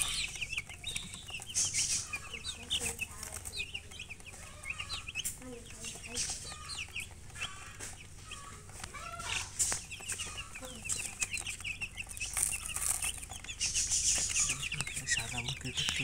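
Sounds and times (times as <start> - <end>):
chicks peeping: 0.0 - 16.0
hen clucking: 0.0 - 16.0.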